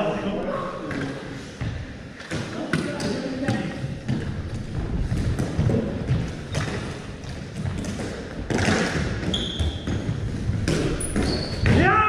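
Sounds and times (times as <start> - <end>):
sticks and ball striking floor: 0.8 - 12.0.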